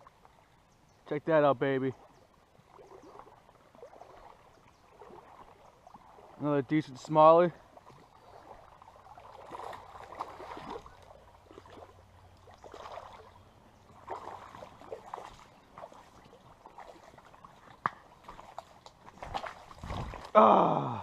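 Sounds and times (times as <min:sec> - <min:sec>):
creek water splashing: 0:00.0 - 0:21.0.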